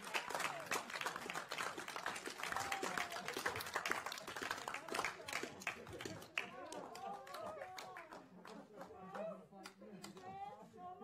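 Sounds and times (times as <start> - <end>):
people applauding: 0.0 - 10.4.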